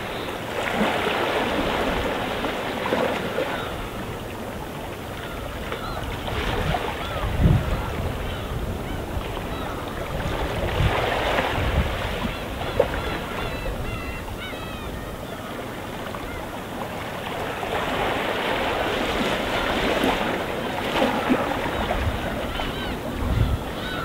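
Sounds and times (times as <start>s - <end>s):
gentle sea waves washing in: 0.0s - 14.4s, 15.2s - 24.0s
gulls calling faintly: 0.0s - 24.0s.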